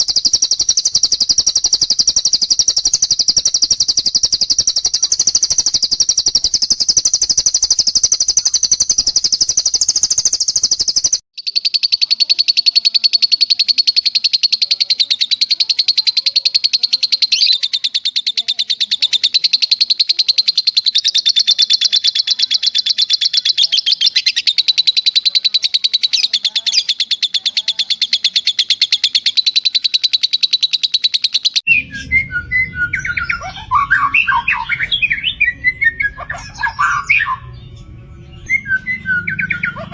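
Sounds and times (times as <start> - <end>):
songbird fast trill: 0.0 - 39.9
whistled bird song phrases: 0.0 - 39.9.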